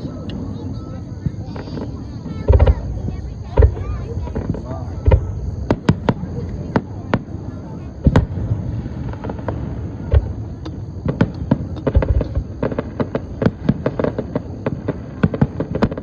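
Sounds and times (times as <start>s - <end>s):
fireworks booms and cracks: 0.0s - 16.0s.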